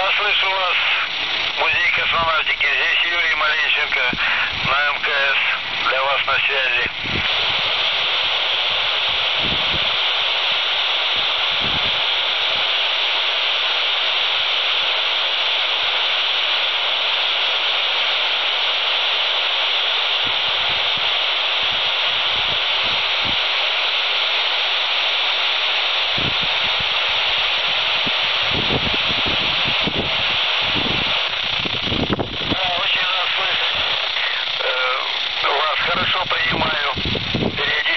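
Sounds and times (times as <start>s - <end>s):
radio static hiss: 0.0s - 37.9s.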